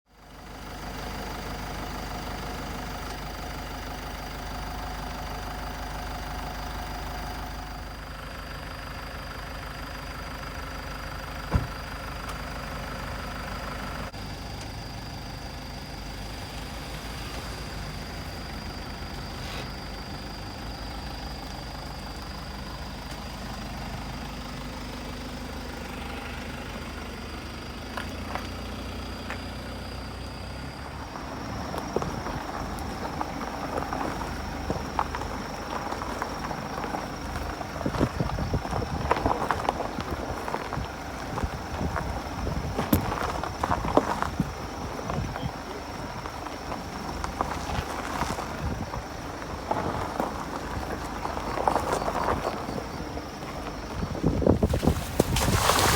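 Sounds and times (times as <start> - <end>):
diesel engine rumbling: 0.1 - 55.9.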